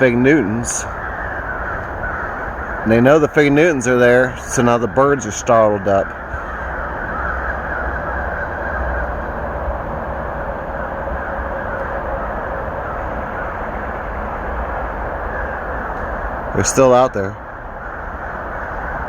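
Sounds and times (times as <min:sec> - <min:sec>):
highway traffic roar: 0:00.0 - 0:19.0.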